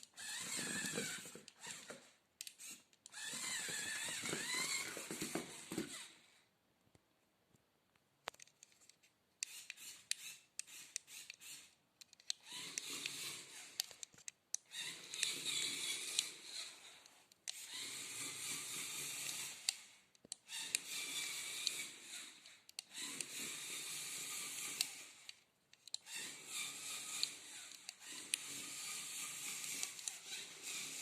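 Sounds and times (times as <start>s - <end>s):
small plastic clicks: 0.0s - 4.6s, 7.9s - 23.8s, 24.4s - 31.0s
toy motors and gears whirring: 0.0s - 6.4s, 8.3s - 31.0s.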